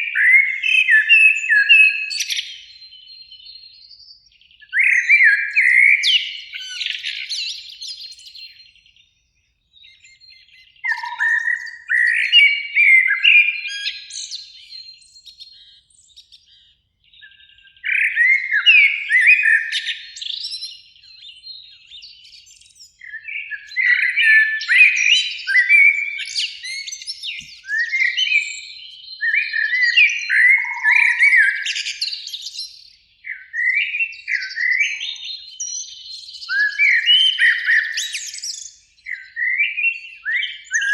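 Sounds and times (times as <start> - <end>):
blackbird singing: 0.0 - 40.9.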